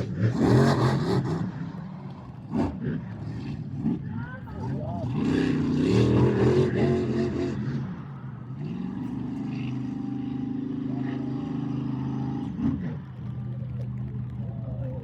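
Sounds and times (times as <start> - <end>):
monster truck engine revving: 0.0 - 1.8, 2.4 - 13.4.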